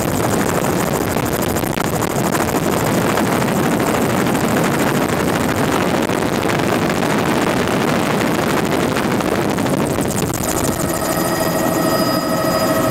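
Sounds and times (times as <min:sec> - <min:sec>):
helicopter rotor and engine: 0:00.0 - 0:12.9
multi-pitched whine: 0:00.0 - 0:12.9.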